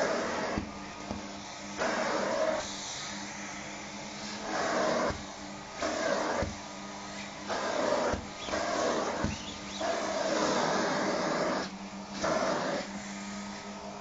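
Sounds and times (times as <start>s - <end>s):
vacuum cleaner humming: 0.0s - 14.0s.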